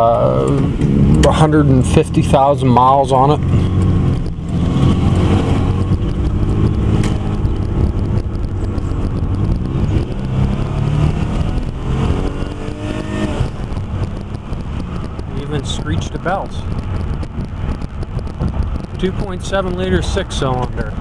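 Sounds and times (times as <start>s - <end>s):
car engine under throttle: 0.0s - 21.0s
road noise: 0.0s - 21.0s.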